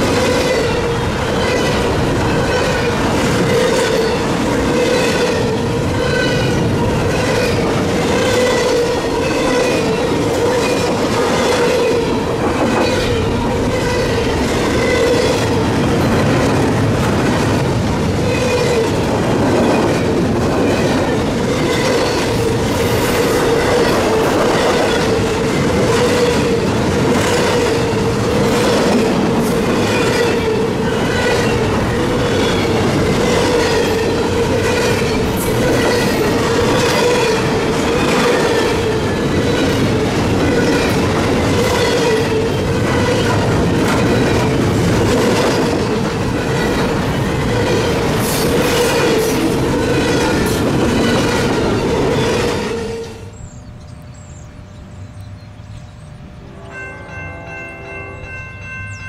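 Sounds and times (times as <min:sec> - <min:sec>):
rhythmic clickety-clack: 0:00.0 - 0:52.7
train wheels rumbling on rail: 0:00.0 - 0:59.0.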